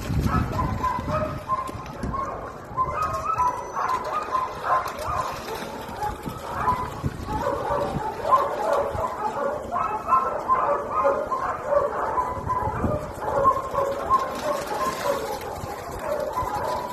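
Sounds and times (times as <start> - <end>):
dogs yipping and whining: 0.3 - 16.9.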